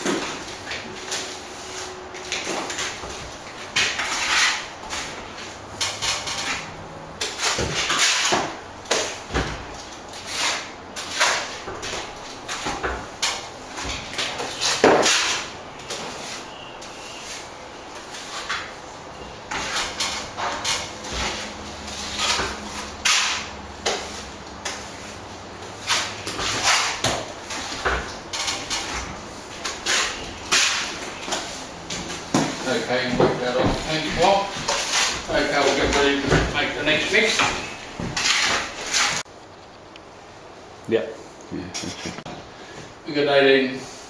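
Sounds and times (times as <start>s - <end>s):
mortar scraping: 0.0s - 18.8s, 19.5s - 39.3s.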